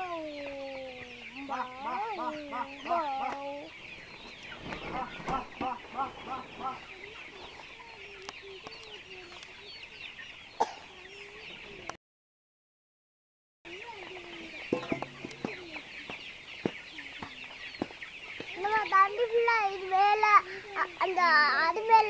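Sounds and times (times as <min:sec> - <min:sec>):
chickens clucking and peeping: 0:00.0 - 0:12.0, 0:13.7 - 0:22.0.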